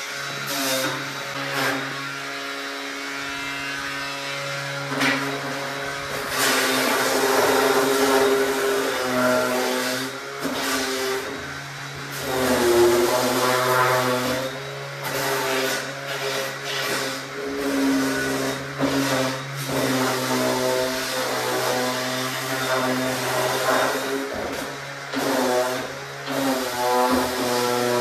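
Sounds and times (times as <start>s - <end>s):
palm sander sanding wood: 0.0s - 28.0s.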